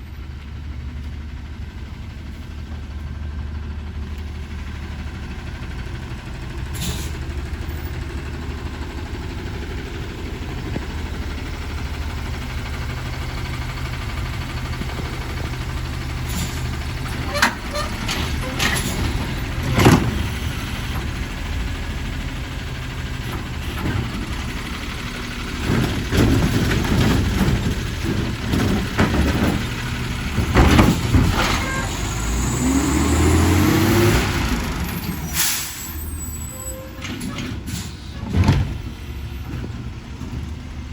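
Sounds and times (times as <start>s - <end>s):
garbage truck diesel engine running: 0.0s - 40.9s.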